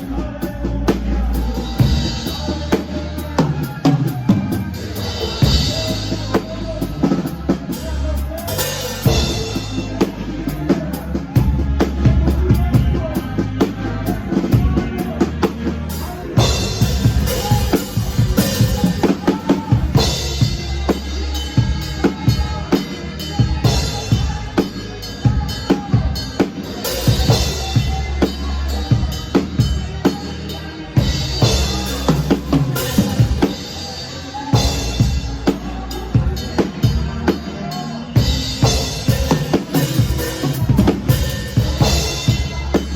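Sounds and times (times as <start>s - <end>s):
live band music: 0.0s - 42.9s.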